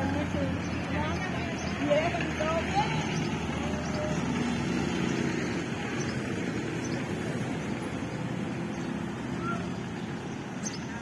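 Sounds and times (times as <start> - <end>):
cars driving past: 0.0 - 11.0
steady road rumble: 0.0 - 11.0.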